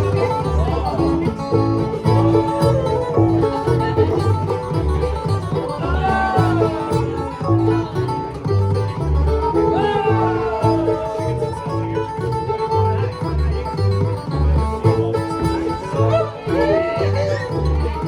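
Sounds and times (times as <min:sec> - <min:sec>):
banjo picking: 0:00.0 - 0:18.0
bass notes: 0:00.0 - 0:18.0
guitar: 0:00.0 - 0:18.0.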